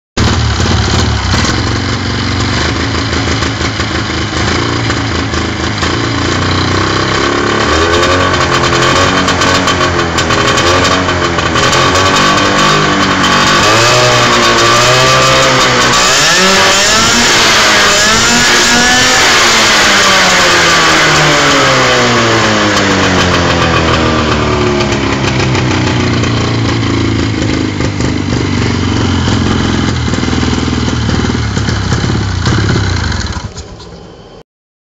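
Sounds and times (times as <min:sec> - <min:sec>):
small engine idling and revving: 0:00.2 - 0:34.4.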